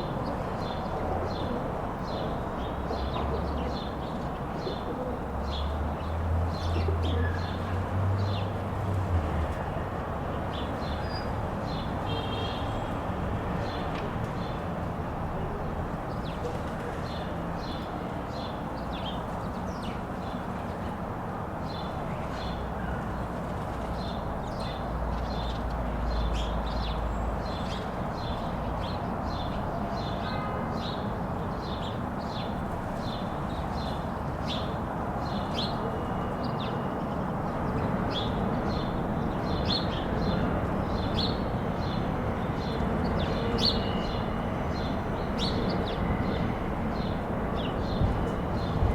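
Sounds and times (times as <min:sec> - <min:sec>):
city traffic rumble: 0:00.0 - 0:48.9.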